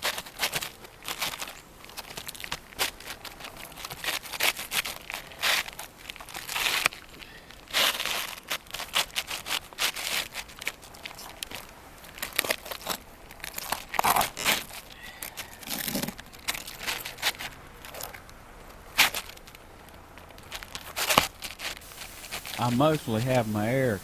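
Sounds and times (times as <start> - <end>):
shingles scraping and rustling: 0.0 - 24.0.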